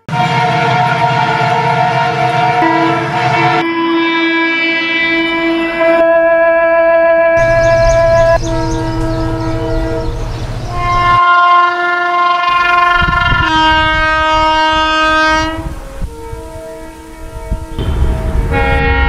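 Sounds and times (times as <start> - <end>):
locomotive horn blasts: 0.0 - 19.0
train rumble: 0.0 - 19.0.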